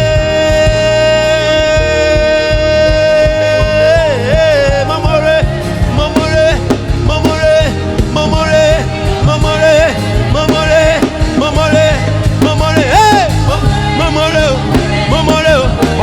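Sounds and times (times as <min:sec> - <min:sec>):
band with bass and drum beat: 0:00.0 - 0:16.0
person singing long held notes: 0:00.0 - 0:16.0.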